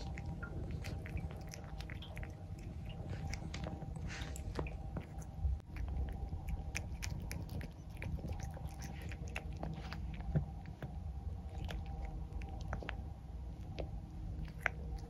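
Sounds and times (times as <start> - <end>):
cat chewing bones: 0.0 - 15.0
low steady hum: 0.0 - 15.0.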